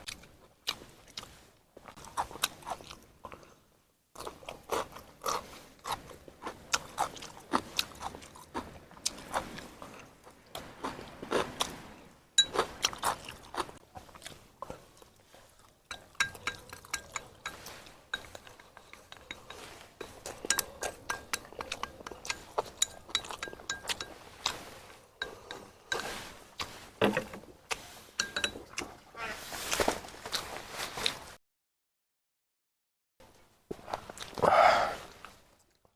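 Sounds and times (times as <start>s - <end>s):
person chewing and crunching food: 0.0s - 31.3s, 33.8s - 35.9s.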